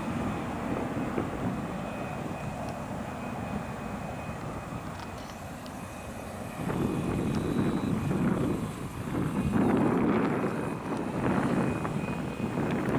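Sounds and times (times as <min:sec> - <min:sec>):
jet engines rumbling: 0:00.0 - 0:12.9
wind buffeting microphone: 0:00.0 - 0:12.9.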